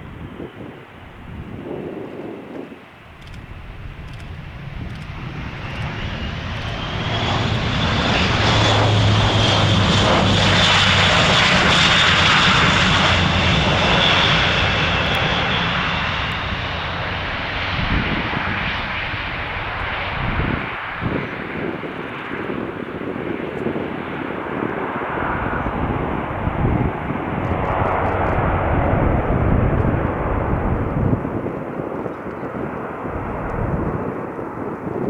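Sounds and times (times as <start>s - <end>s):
turboprop aircraft passing: 0.1s - 35.0s.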